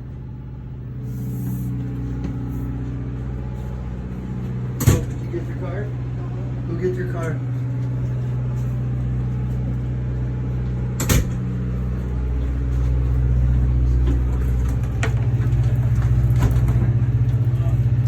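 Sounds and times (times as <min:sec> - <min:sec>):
motor humming: 0:00.9 - 0:18.0.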